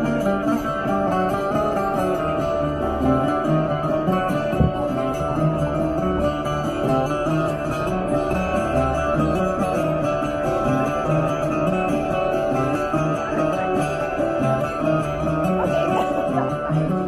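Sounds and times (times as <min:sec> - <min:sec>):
plucked string instrument tune: 0:00.0 - 0:17.0.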